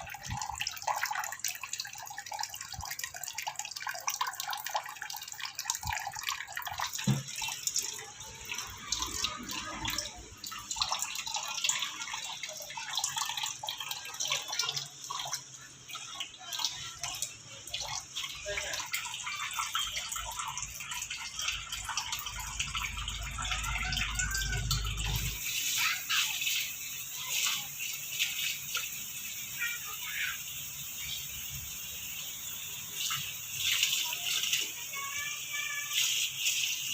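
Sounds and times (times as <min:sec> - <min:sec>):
tap water running into sink: 0:00.0 - 0:36.9.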